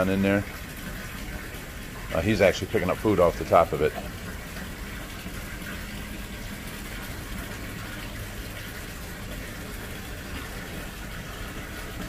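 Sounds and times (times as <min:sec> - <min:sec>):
water splashing into a pond: 0:00.0 - 0:12.0.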